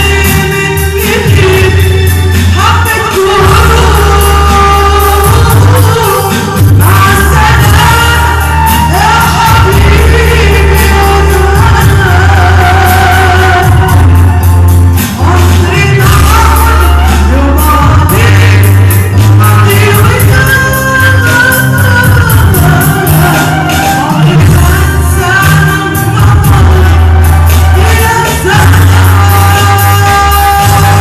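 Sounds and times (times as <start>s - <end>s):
heavy bass line: 0.0s - 31.0s
pop band playing: 0.0s - 31.0s
woman singing: 0.0s - 31.0s.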